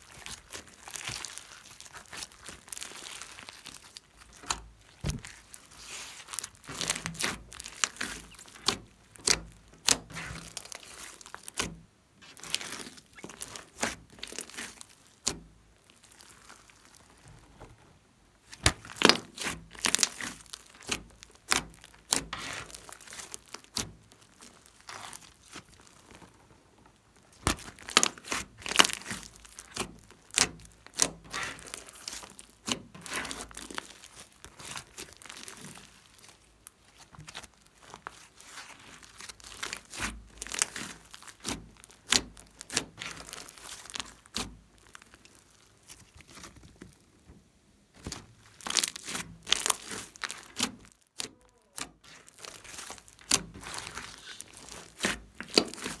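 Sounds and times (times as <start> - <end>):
slime crackling and popping: 0.0 - 17.6, 18.4 - 56.0.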